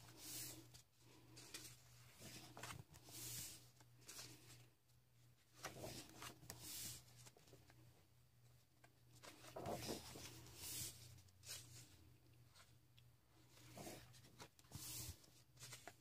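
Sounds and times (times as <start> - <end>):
book pages turning: 0.1 - 4.6, 5.4 - 7.8, 8.8 - 12.8, 13.4 - 16.0.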